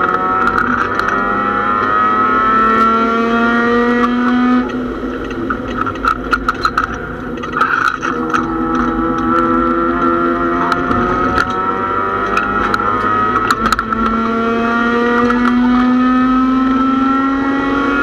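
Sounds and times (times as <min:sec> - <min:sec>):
car clicks and knocks: 0:00.0 - 0:16.2
race car engine revving: 0:00.0 - 0:18.0.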